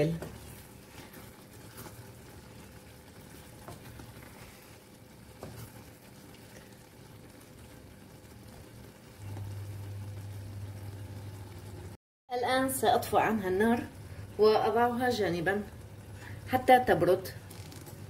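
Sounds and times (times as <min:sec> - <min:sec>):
filling sizzling in a pot: 0:00.0 - 0:18.0
low steady hum: 0:00.0 - 0:18.0.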